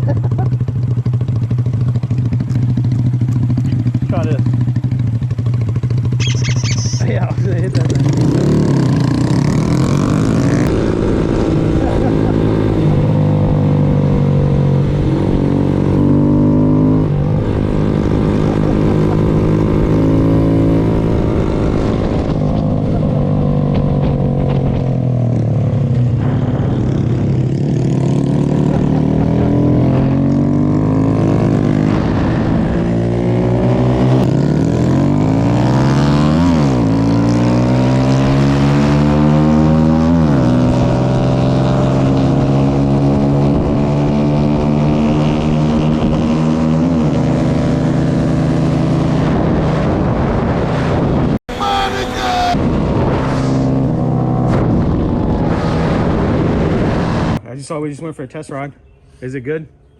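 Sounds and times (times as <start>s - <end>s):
motorcycle engine accelerating: 0.0s - 57.4s.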